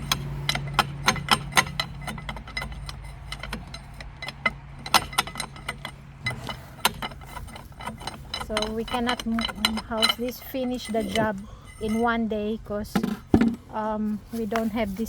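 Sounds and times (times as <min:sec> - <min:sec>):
hand tools clinking on metal: 0:00.0 - 0:15.0
steady low hum: 0:00.0 - 0:15.0.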